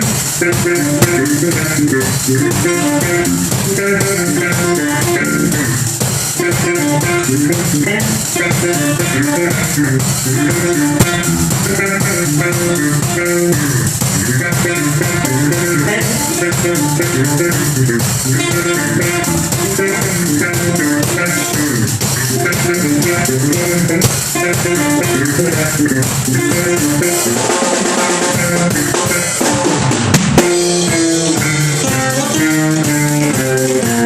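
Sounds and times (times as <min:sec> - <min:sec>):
ten-string guitar: 0:00.0 - 0:29.7, 0:30.4 - 0:34.0
drum kit: 0:00.0 - 0:34.0
electric bass: 0:00.0 - 0:34.0.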